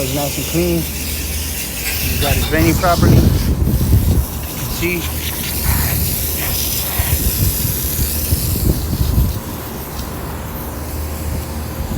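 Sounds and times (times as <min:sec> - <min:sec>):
water spraying from drain line: 0:00.0 - 0:11.9.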